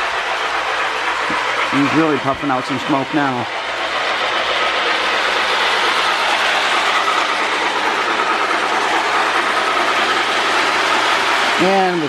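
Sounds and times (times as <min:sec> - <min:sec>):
toy train running on track: 0:00.0 - 0:12.0.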